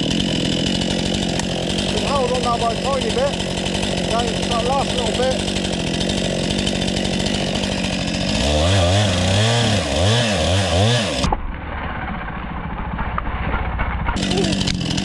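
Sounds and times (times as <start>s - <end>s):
chainsaw cutting wood: 0.0s - 11.4s, 13.2s - 15.0s.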